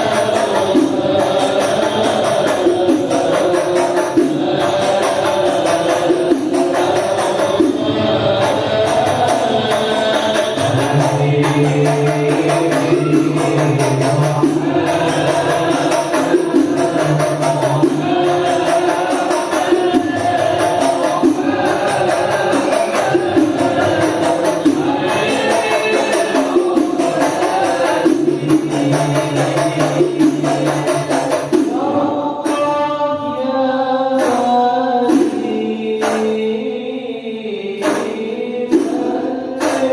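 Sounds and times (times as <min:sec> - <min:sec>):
frame drums beat: 0:00.0 - 0:33.0, 0:34.2 - 0:36.4, 0:37.8 - 0:39.9
voices singing devotional melody: 0:00.0 - 0:39.9.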